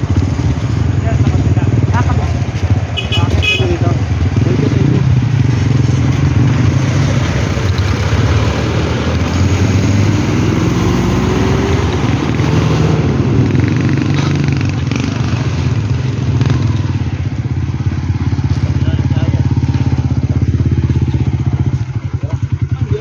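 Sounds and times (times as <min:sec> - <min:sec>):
motorcycle engine droning: 0:00.0 - 0:23.0.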